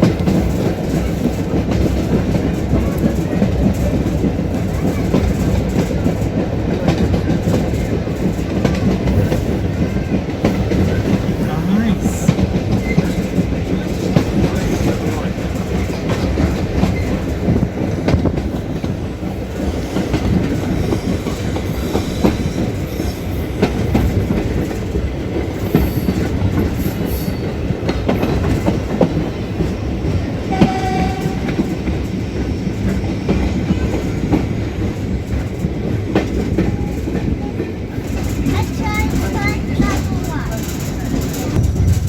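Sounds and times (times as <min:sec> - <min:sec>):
train wheels clickety-clack on rails: 0:00.0 - 0:42.0.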